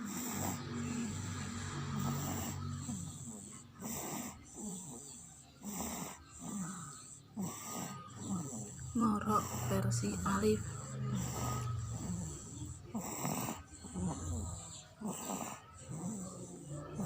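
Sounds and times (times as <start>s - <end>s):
person snoring: 0.0s - 17.0s.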